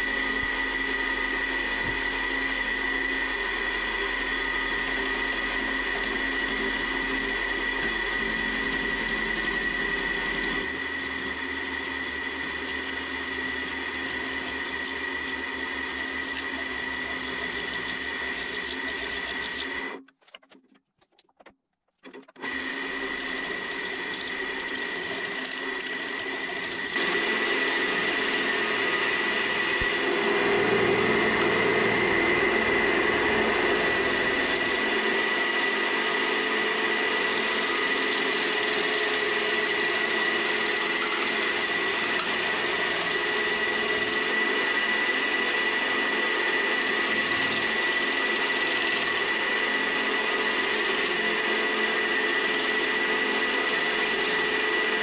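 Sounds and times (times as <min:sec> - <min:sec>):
wood lathe whining: 0:00.0 - 0:20.0, 0:22.4 - 0:55.0.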